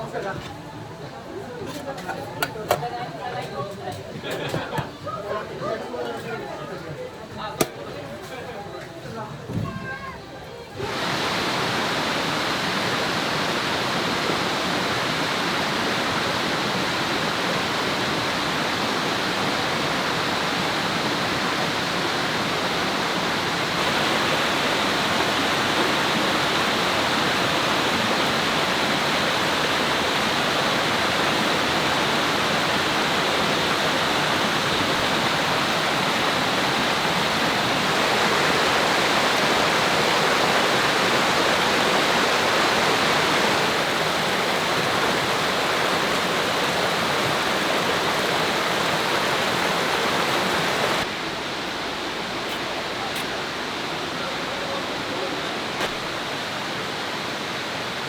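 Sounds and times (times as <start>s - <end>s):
river rushing: 10.8s - 58.0s.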